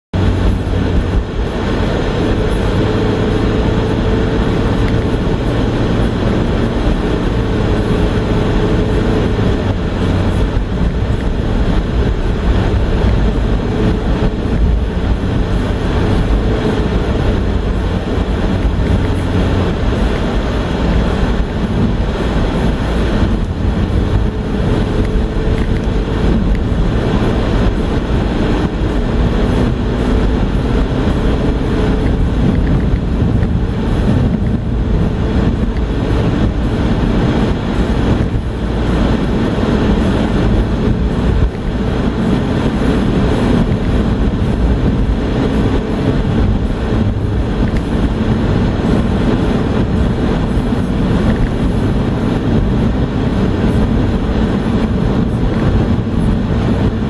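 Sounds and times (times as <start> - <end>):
car tyre and engine rumble: 0.0 - 57.0.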